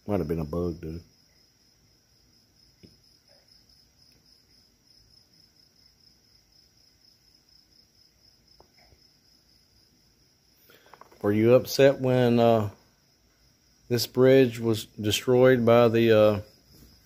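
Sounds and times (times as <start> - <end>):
cricket chorus chirring: 0.0 - 17.0.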